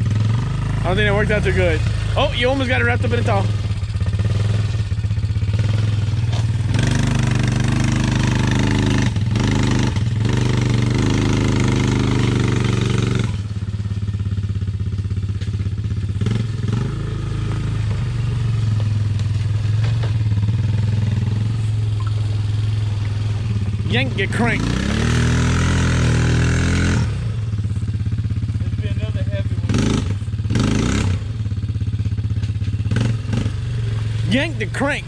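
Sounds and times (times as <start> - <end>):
vehicle engine running under load: 0.0 - 35.0.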